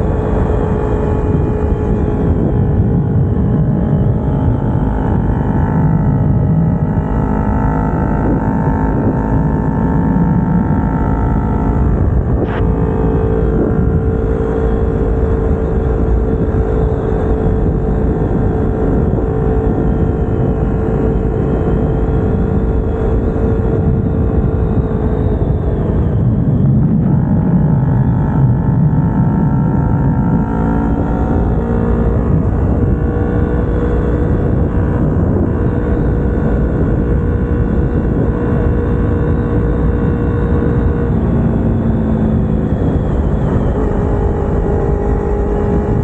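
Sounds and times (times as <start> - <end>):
motorcycle engine: 0.0 - 46.0.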